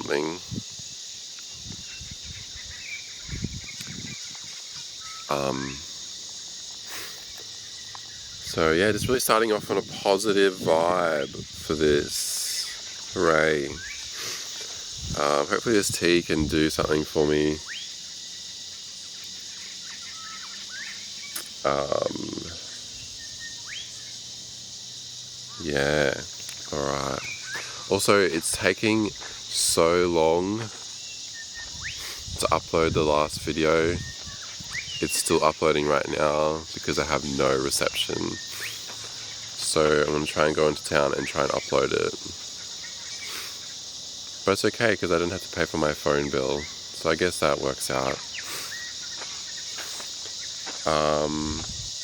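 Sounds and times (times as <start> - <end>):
crickets chirping: 0.0 - 52.0
high-pitched insect chorus: 0.0 - 52.0.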